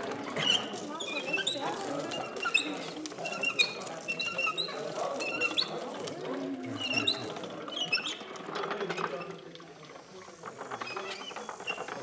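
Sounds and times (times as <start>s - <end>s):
low background murmur: 0.0s - 12.0s.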